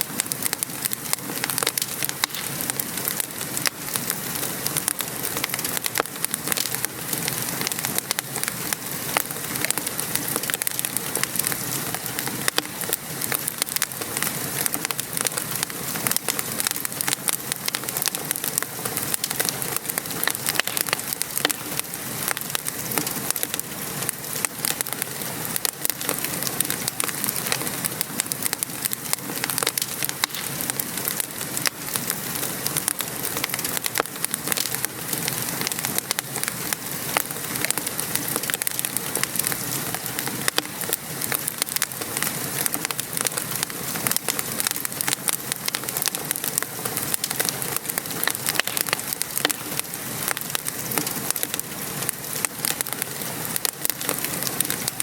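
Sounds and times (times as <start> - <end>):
rain pattering: 0.0 - 55.0
wood fire crackling and popping: 0.0 - 55.0.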